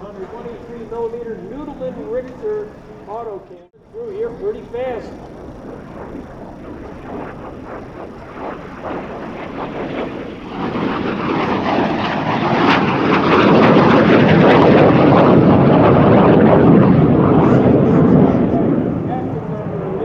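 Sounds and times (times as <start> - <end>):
jet fighter passing: 0.0 - 20.0.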